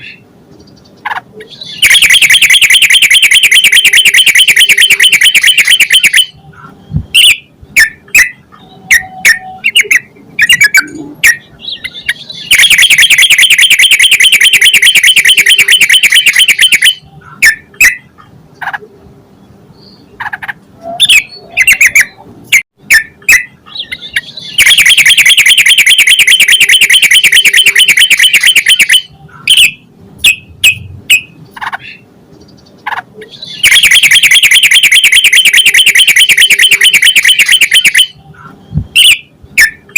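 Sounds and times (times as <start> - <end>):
bird chirps: 0.0 - 18.3, 19.4 - 22.2, 22.9 - 39.9.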